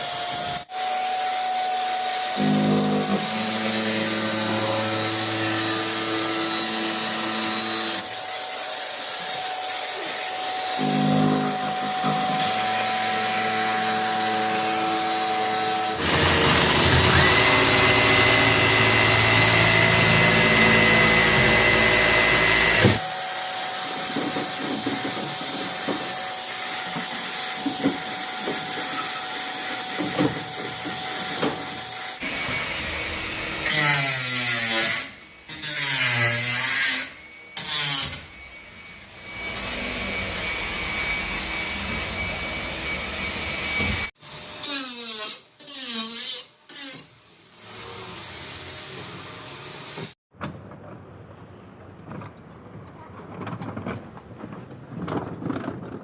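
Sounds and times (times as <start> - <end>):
power tool whining: 0.0 - 50.2.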